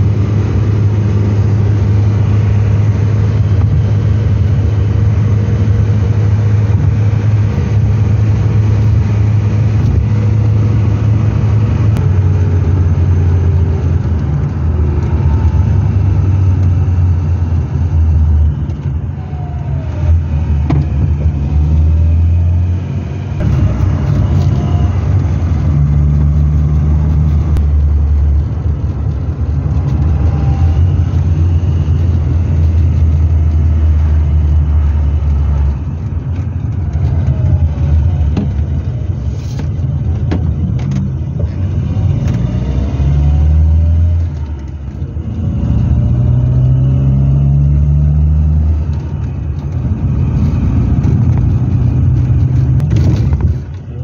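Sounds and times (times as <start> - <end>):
car engine running: 0.0 - 54.0
road and wind noise: 0.0 - 54.0.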